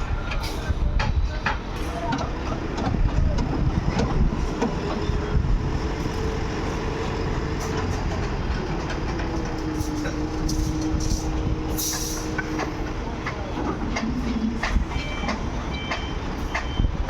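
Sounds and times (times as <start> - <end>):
engine whine: 0.0 - 17.0
heavy vehicle engine rumbling: 0.0 - 17.0.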